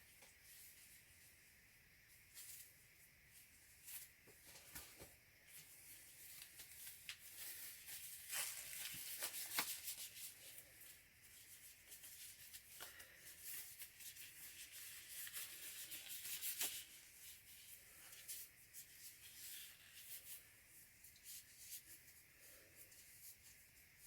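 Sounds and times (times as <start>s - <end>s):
disposable gloves rustling: 0.0s - 24.0s.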